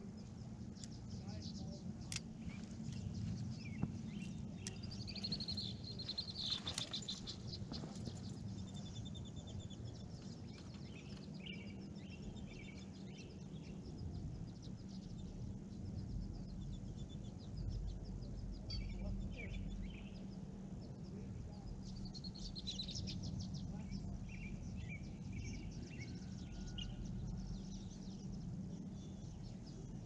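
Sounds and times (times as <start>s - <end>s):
low background hum: 0.0s - 30.0s
songbirds singing: 0.0s - 30.0s.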